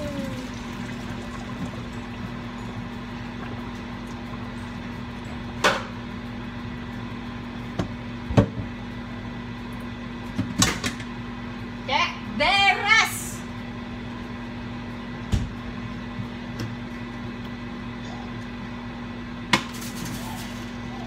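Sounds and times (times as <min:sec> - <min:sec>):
kitchen appliance humming: 0:00.0 - 0:21.0.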